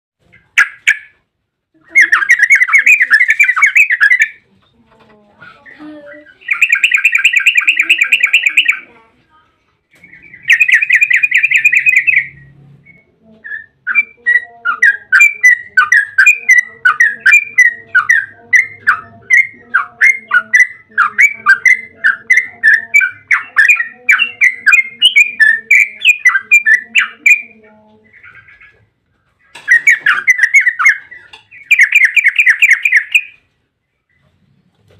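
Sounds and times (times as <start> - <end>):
bulbul chattering trills: 0.2 - 4.5, 5.6 - 9.1, 10.0 - 33.5.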